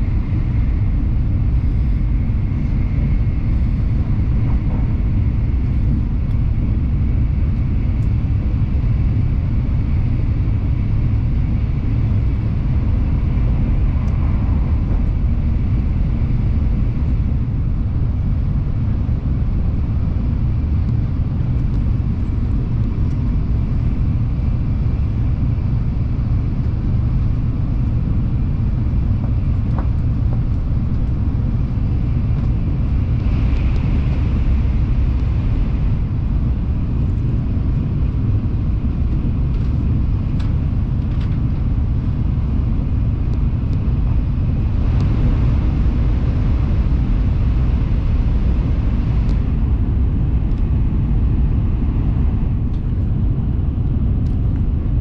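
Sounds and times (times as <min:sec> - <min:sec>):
train interior low rumble: 0:00.0 - 0:55.0.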